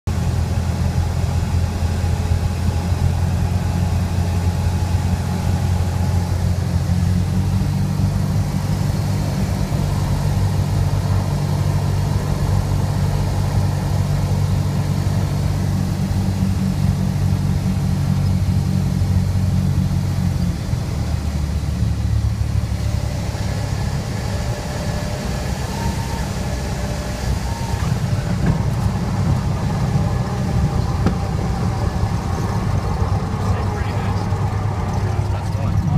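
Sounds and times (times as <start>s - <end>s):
aircraft engine and propeller drone: 0.1s - 35.9s.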